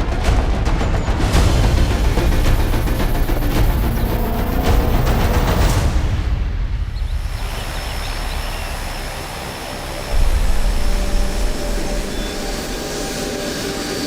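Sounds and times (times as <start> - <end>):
aircraft engine drone: 0.0 - 6.2, 7.0 - 14.0.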